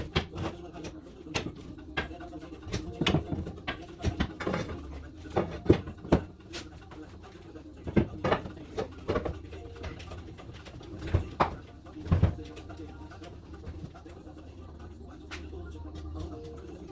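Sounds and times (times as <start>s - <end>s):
hand tools knocking and clattering: 0.0s - 14.5s.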